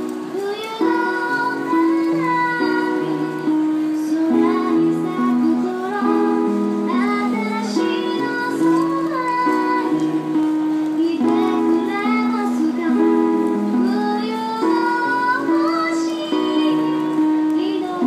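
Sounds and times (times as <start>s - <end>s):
instrumental accompaniment: 0.0s - 18.0s
woman singing into microphone: 0.0s - 18.0s.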